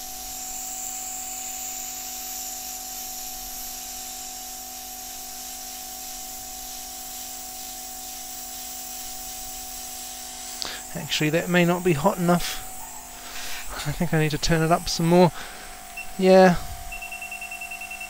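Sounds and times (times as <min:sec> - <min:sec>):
fan whine: 0:00.0 - 0:18.0
hot air hiss: 0:00.0 - 0:18.0.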